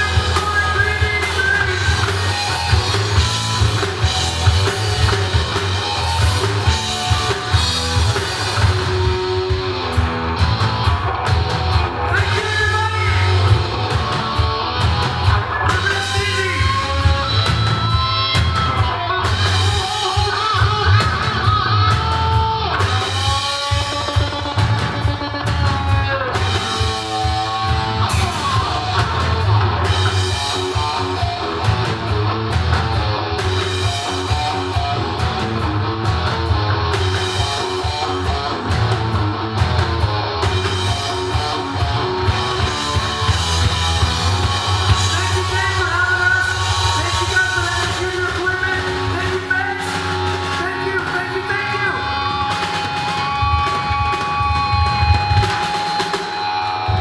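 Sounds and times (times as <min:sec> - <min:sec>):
bass guitar: 0:00.0 - 0:57.0
drum kit: 0:00.0 - 0:57.0
electric guitar lead line: 0:00.0 - 0:57.0.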